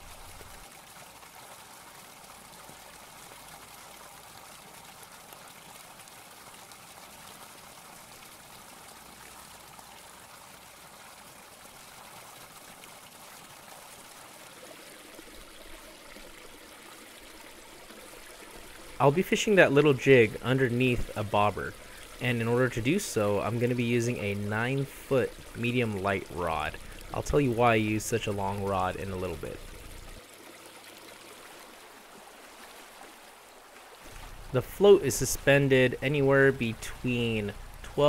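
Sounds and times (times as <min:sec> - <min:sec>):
faint trickle of running water: 0:00.0 - 0:38.0.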